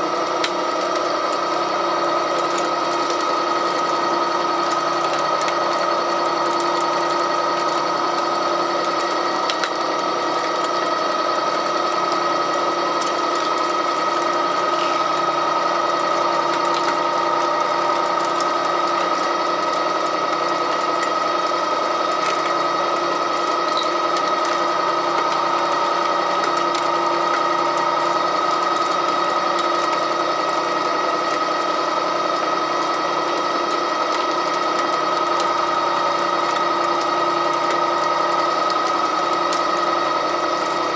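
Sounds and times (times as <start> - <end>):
pipe threading machine whining: 0.0 - 40.9.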